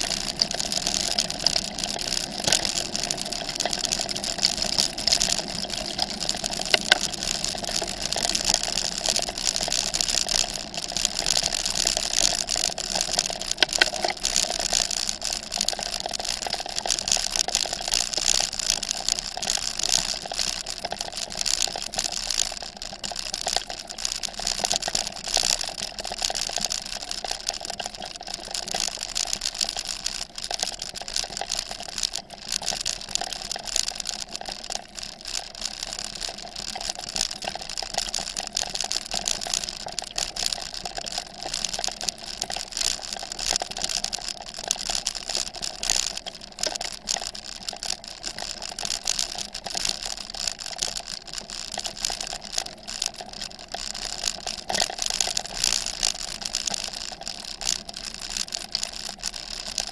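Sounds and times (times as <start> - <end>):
bicycle tyres crunching gravel: 0.0 - 59.9.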